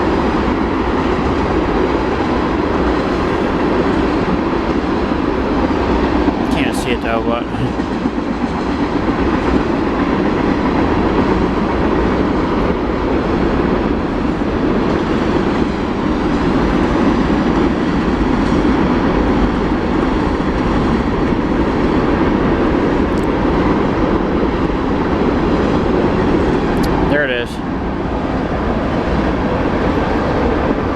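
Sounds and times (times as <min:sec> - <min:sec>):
freight train wheels rattling past: 0:00.0 - 0:30.9.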